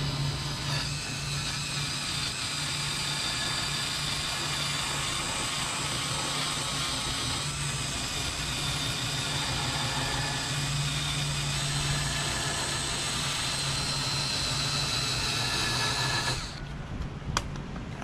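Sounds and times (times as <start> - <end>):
drill wire brush scraping metal: 0.0 - 16.6.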